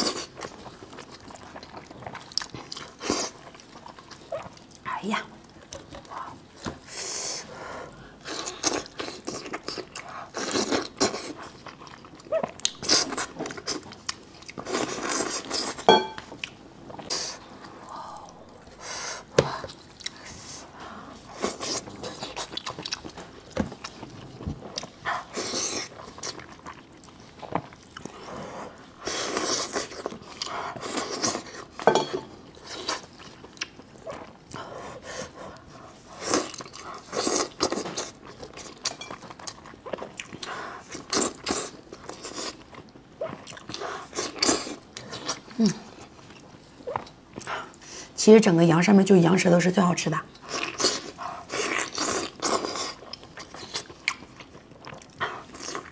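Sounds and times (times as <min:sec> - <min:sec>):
person chewing wetly: 0:00.0 - 0:04.8, 0:08.2 - 0:47.8, 0:50.3 - 0:55.9.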